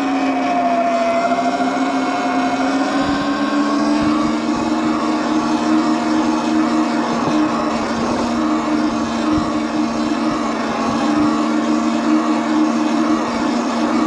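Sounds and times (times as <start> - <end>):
electric motor whining: 0.0 - 14.0
wind: 0.0 - 14.0.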